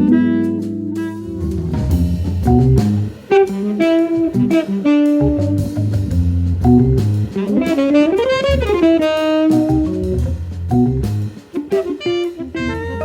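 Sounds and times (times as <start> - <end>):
jazz band playing: 0.0 - 13.0.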